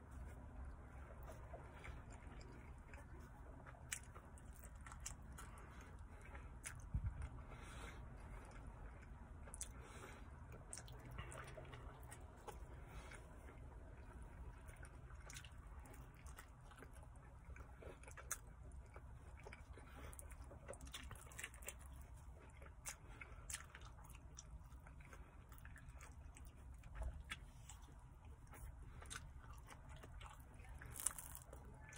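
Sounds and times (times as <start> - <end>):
chewing food: 0.0 - 31.9
low steady hum: 0.0 - 31.9.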